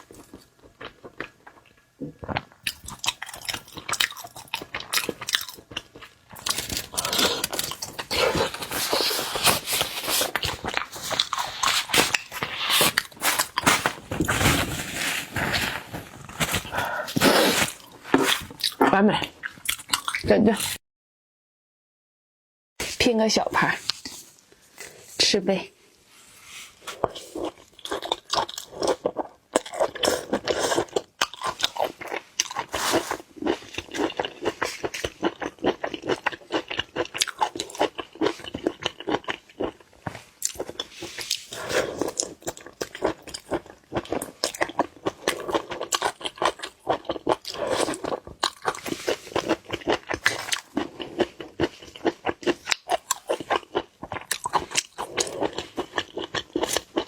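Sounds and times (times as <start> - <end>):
crunching and chewing: 0.0 - 20.2, 26.8 - 57.0.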